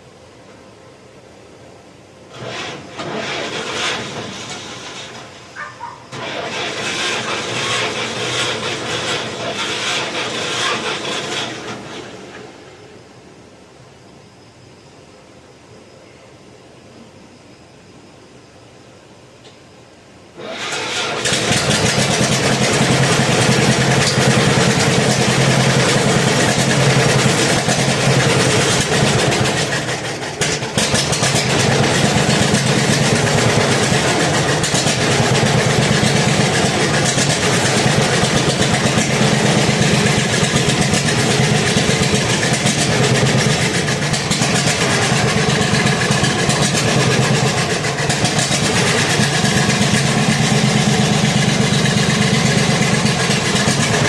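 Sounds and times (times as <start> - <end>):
old engine running: 2.3 - 12.6, 20.4 - 54.0.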